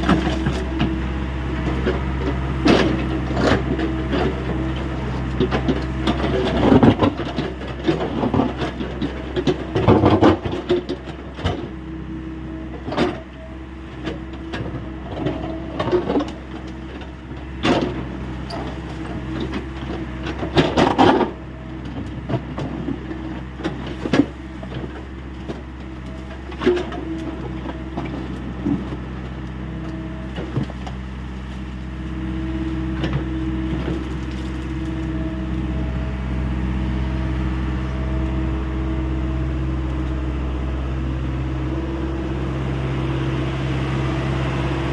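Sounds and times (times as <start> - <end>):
excavator engine running: 0.0 - 44.9.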